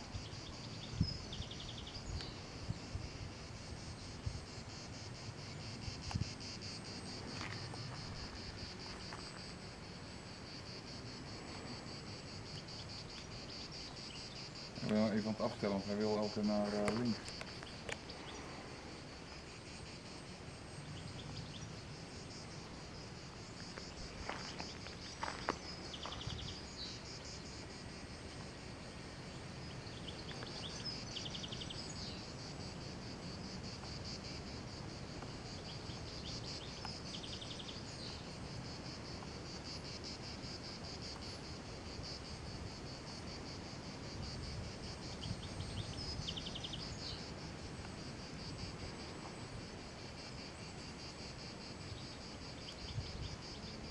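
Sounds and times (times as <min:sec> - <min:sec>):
insect chirping bursts: 0:00.0 - 0:53.9
insects trilling: 0:00.0 - 0:53.9.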